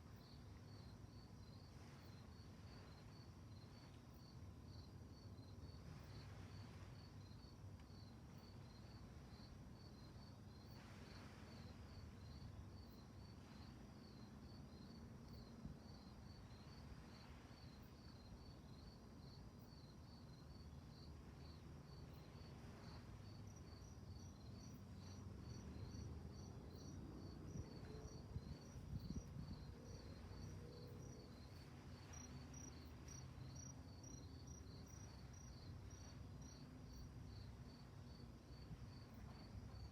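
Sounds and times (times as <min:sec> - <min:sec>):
crickets chirping: 0:00.0 - 0:39.9
faint low rumble: 0:00.0 - 0:39.9
higher-pitched cricket chirping: 0:00.1 - 0:39.9.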